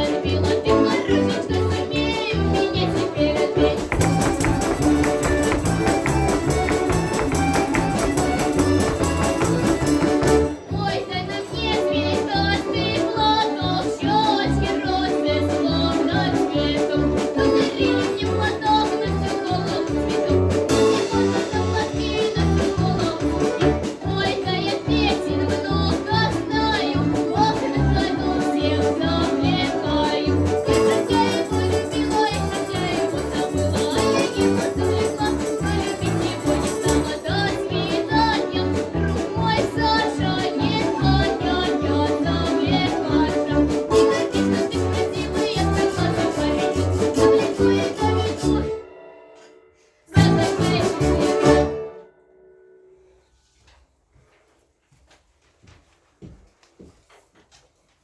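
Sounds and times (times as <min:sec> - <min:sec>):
folk instrument orchestra playing: 0:00.0 - 0:48.9, 0:50.1 - 0:52.1.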